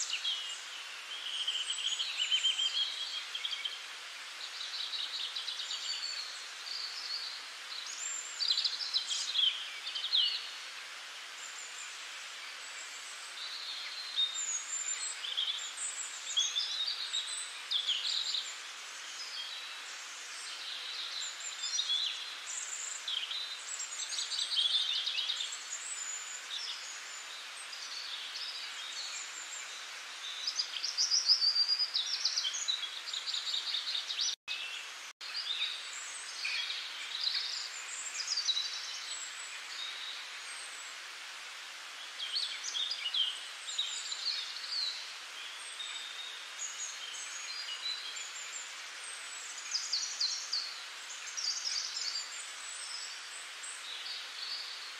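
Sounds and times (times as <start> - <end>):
small birds chirping: 0.0 - 54.9
steady background hiss: 0.0 - 54.9.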